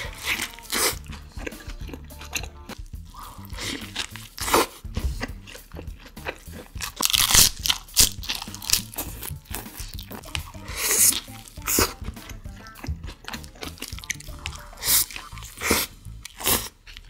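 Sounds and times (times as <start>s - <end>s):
crunchy chewing of food: 0.0s - 17.0s.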